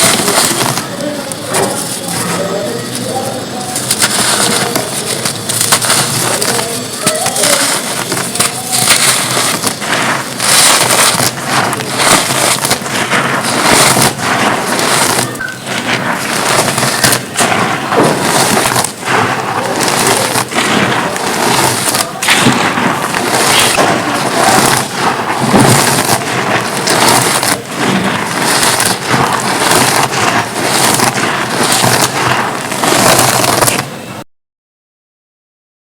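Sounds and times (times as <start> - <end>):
dry dirt crunching and crumbling: 0.0 - 33.8.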